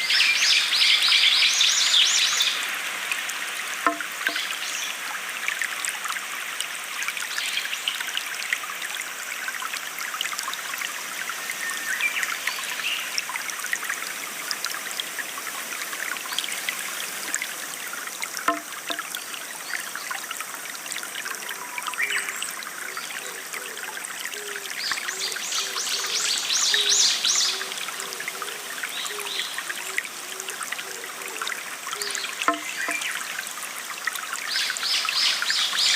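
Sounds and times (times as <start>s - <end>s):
stream trickling over stones: 0.0s - 35.9s.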